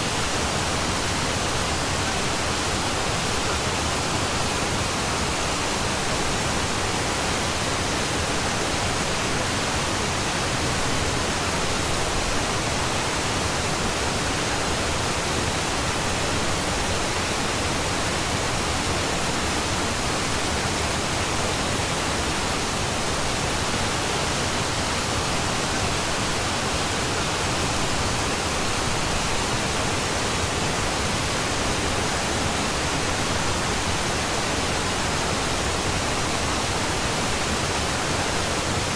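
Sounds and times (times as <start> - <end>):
steady broadband hiss: 0.0 - 38.9.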